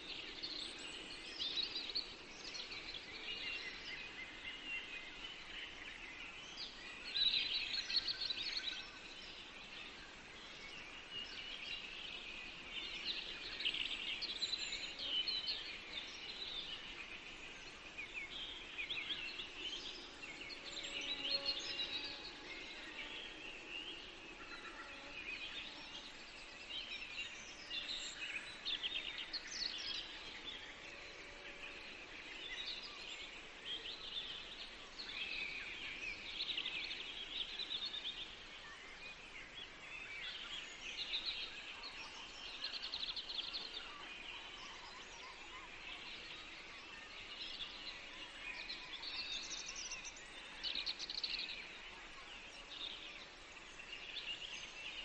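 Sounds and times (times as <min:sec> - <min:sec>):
songbirds chorus: 0:00.0 - 0:55.0.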